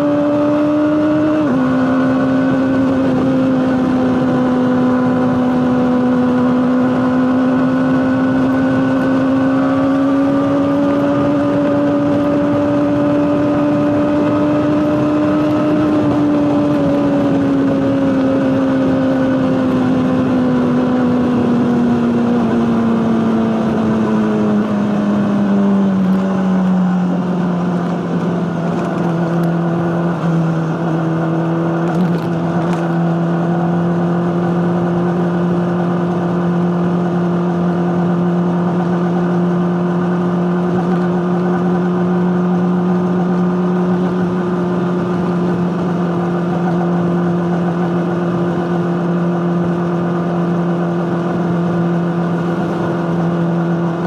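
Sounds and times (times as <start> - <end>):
motorcycle engine high drone: 0.0 - 54.0.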